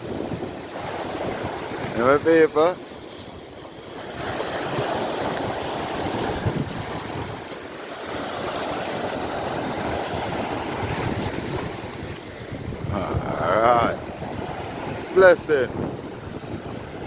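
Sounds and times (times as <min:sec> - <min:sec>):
sea surf washing ashore: 0:00.0 - 0:17.0
wind on microphone: 0:00.0 - 0:17.0.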